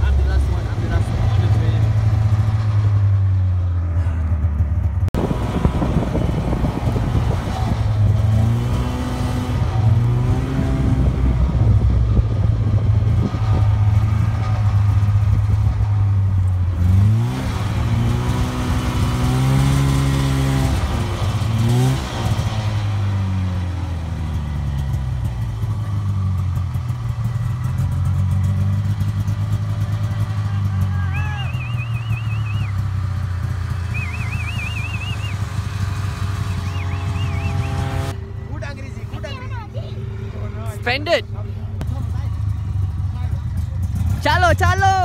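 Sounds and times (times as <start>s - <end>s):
snowmobile engine droning: 0.0s - 45.0s.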